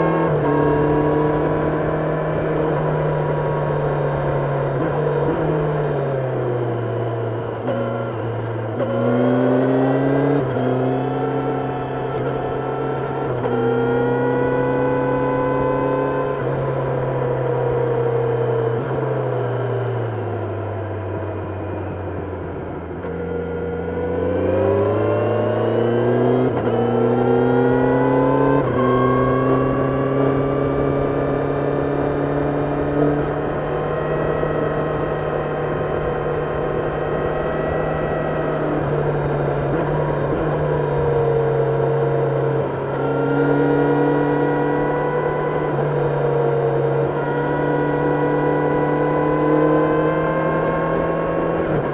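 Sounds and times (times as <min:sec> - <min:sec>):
motorcycle engine revving: 0:00.0 - 0:19.2, 0:22.9 - 0:51.9.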